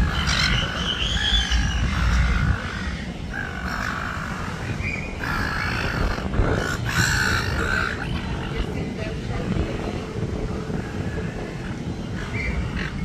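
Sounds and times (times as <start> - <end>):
gulls squawking: 0.0 - 9.1, 10.4 - 13.0
low rumble: 0.0 - 13.0.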